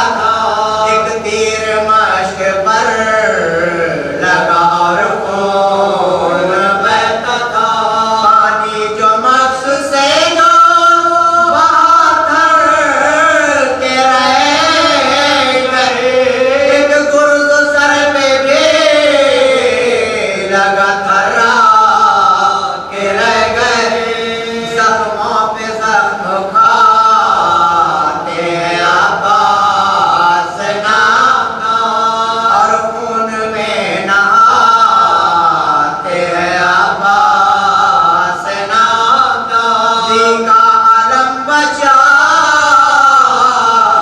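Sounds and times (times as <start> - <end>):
man chanting: 0.0 - 44.0.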